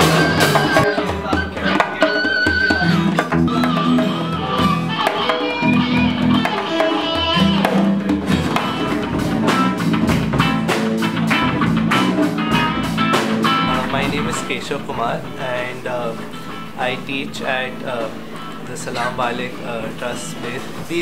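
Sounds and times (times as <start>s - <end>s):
bass guitar: 0.0s - 1.8s, 2.6s - 21.0s
djembe: 0.0s - 19.6s
drum kit: 0.0s - 21.0s
electric guitar lead: 0.0s - 21.0s.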